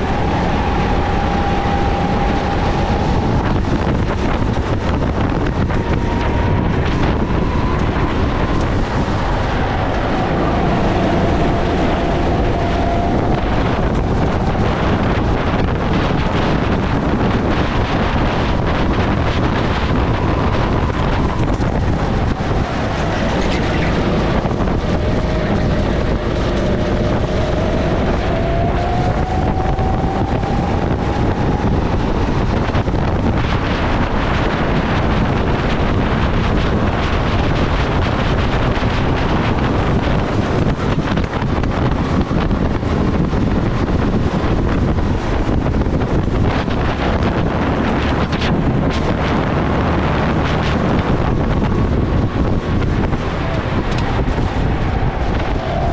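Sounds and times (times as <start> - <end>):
kart engine: 0.0 - 55.9
wind buffeting microphone: 0.0 - 55.9.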